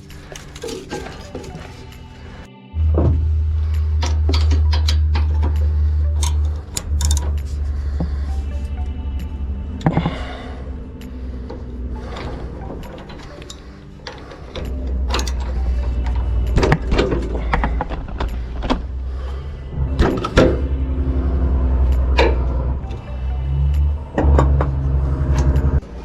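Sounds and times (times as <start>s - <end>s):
hand tools clicking on metal: 0.0s - 2.5s, 3.8s - 10.4s, 11.0s - 23.0s
steady low hum: 0.0s - 26.0s.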